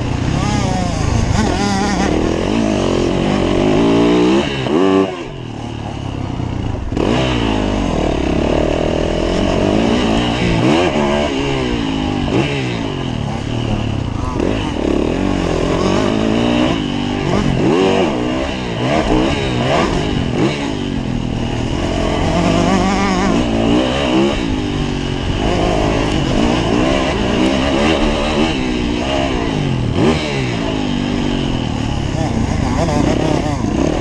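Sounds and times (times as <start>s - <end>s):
motocross engine revving: 0.0s - 34.0s.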